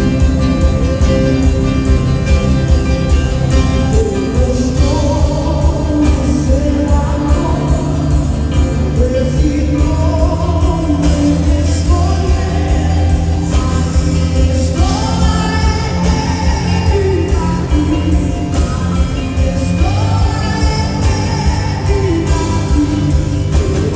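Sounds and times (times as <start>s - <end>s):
gospel band playing: 0.0s - 23.9s
person singing: 0.0s - 23.9s.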